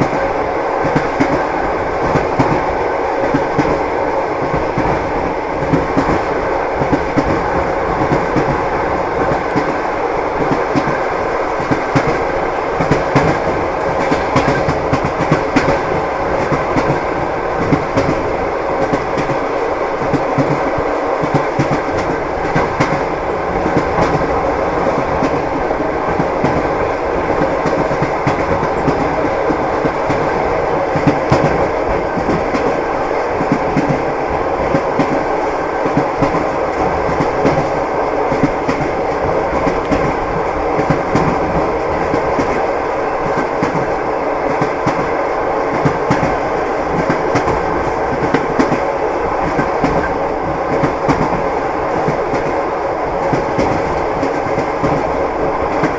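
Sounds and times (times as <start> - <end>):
train rolling rumble: 0.0 - 55.9.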